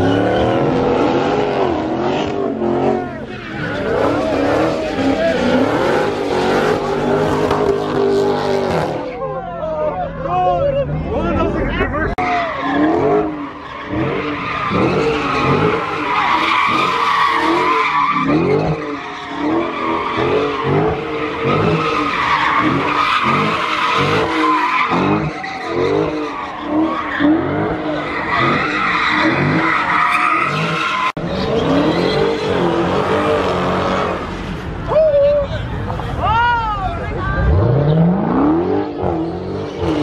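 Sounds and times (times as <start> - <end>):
car engine revving: 0.0 - 9.2, 10.9 - 34.9, 37.2 - 40.0
tire screech: 0.0 - 40.0.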